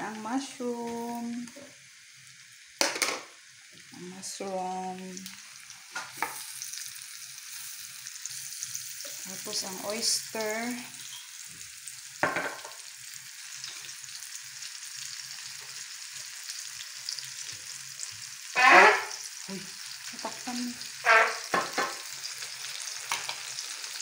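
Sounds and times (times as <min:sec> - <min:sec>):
mushrooms sizzling in a frying pan: 0:00.0 - 0:24.0.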